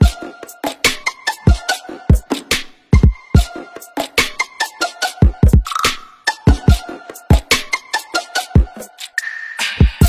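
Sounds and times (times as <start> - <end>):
electronic music with hip-hop beat: 0.0 - 10.0.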